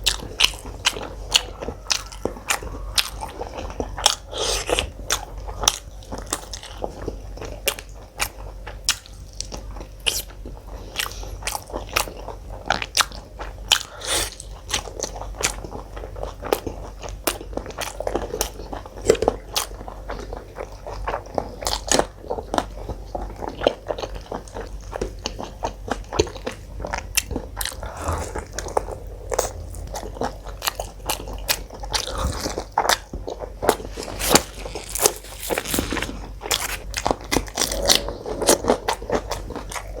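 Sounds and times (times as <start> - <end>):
wet chewing with crisp crunches: 0.0 - 40.0.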